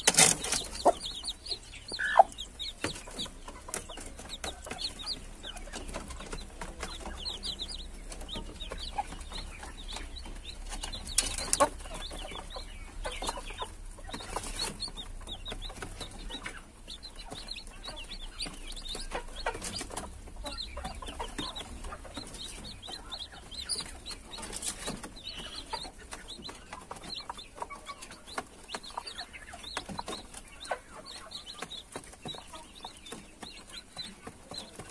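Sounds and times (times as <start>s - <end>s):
beaks tapping plastic tray: 0.0s - 34.9s
chicks peeping: 0.0s - 34.9s.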